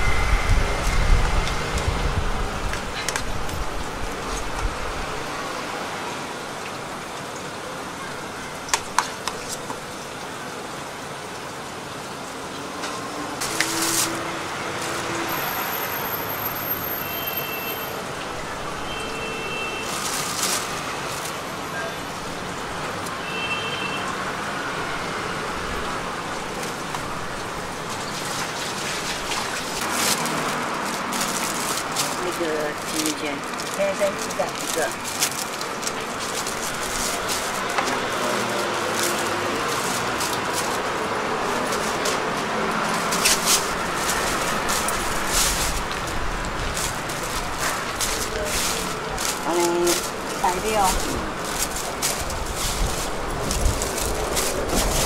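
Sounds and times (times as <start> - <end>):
traffic hum: 0.0 - 55.0.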